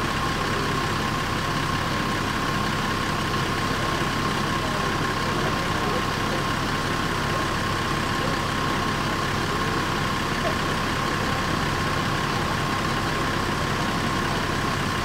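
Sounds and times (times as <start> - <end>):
diesel bus engine rumbling: 0.0 - 15.0.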